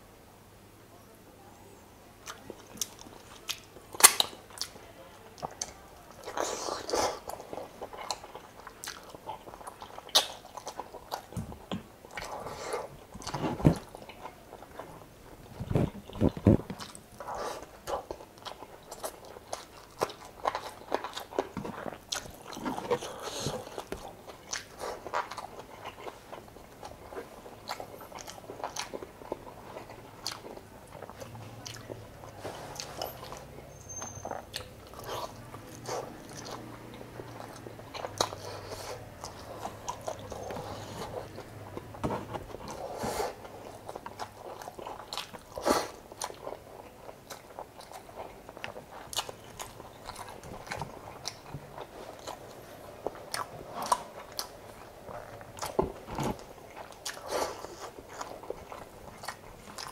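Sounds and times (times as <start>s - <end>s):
wet chewing and biting: 5.4s - 59.9s.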